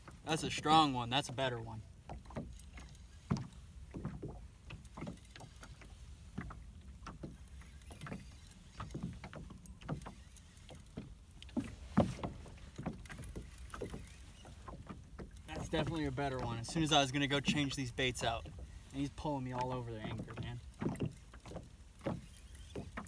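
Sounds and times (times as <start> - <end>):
water slapping against hull: 0.0 - 23.0.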